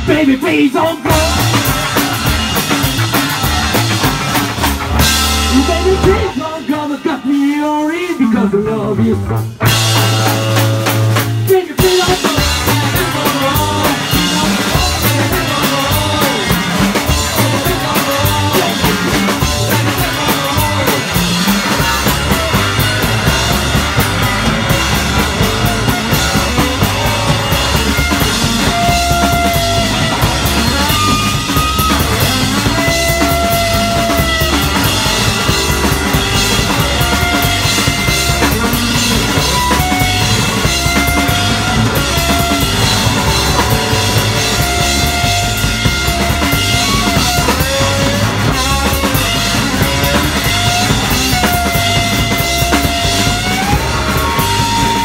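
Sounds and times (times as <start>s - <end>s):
electric guitar: 0.0s - 7.4s, 8.0s - 55.0s
drum kit: 0.0s - 55.0s
electric bass: 0.0s - 55.0s
held lead guitar notes: 0.9s - 6.6s, 9.4s - 55.0s.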